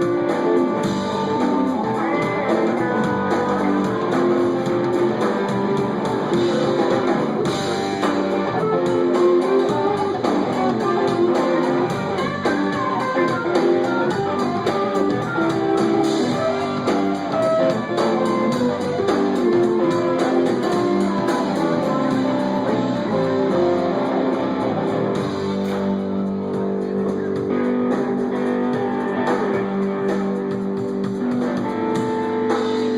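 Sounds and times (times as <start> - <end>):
bass: 0.0 - 32.9
guitar: 0.0 - 32.9
live band playing: 0.0 - 32.9.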